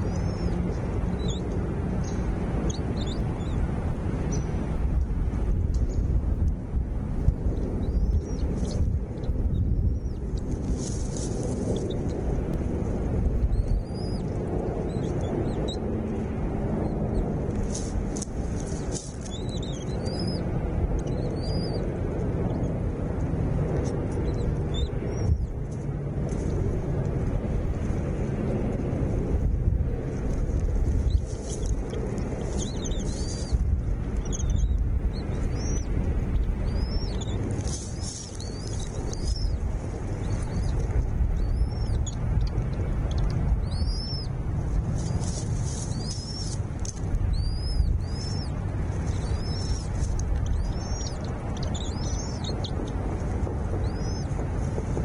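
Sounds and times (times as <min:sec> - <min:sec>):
small birds chirping: 0:00.0 - 0:54.7
steady low rumble: 0:00.0 - 0:55.0.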